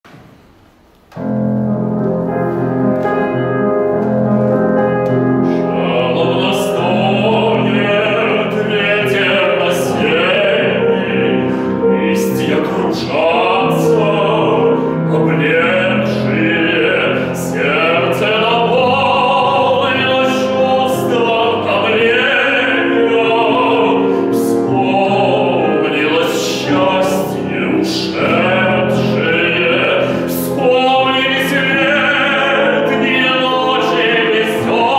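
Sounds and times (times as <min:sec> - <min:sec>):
piano accompaniment: 0:00.1 - 0:34.9
man singing operatically: 0:04.6 - 0:34.9.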